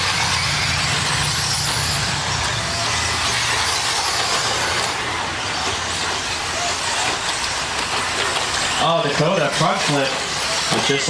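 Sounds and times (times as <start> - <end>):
rc cars high-pitched hiss: 0.0 - 11.0.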